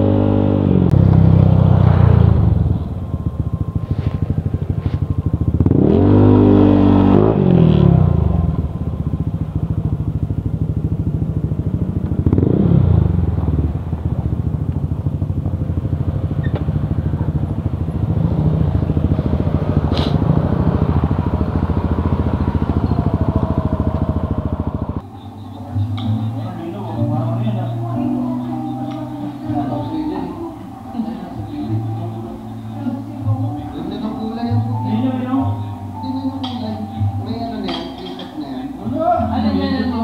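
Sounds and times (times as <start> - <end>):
scooter engine running: 0.0 - 38.3.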